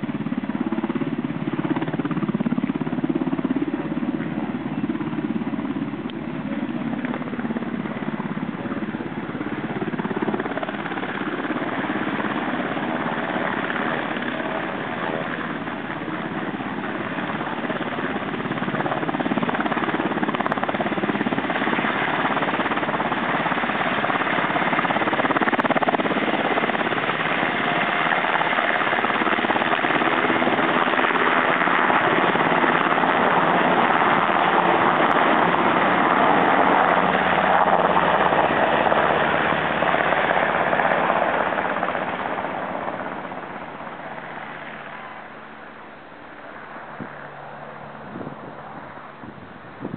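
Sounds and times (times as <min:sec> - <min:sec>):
helicopter rotor and engine: 0:00.0 - 0:49.9.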